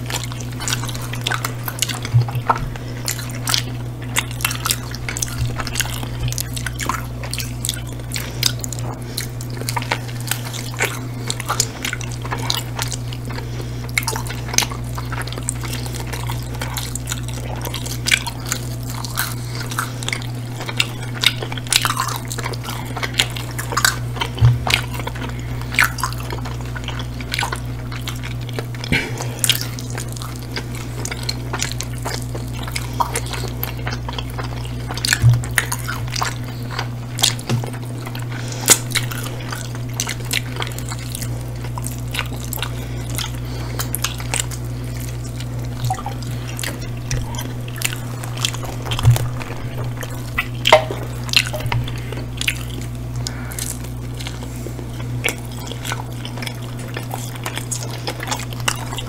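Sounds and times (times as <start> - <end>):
steady low hum: 0.0 - 59.0
wet chewing and lip-smacking: 0.0 - 59.0.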